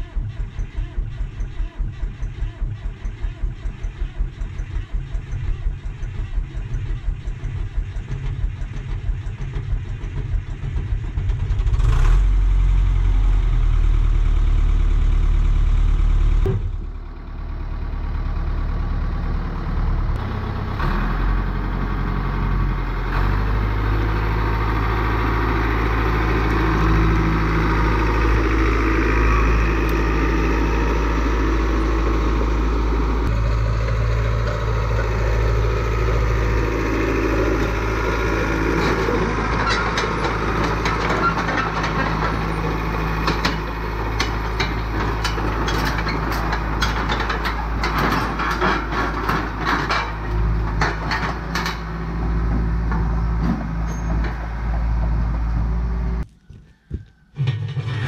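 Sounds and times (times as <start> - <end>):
bulldozer diesel engine: 0.0 - 56.3, 57.4 - 58.0.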